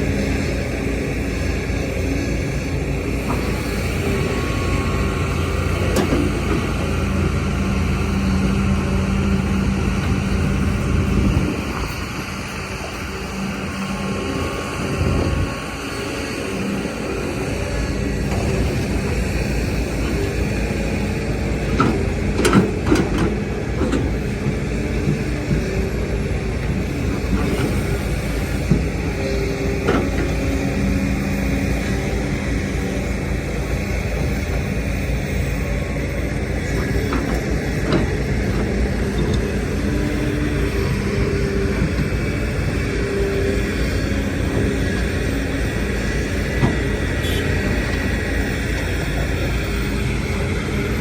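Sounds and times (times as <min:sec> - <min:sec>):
diesel engines running: 0:00.0 - 0:51.0.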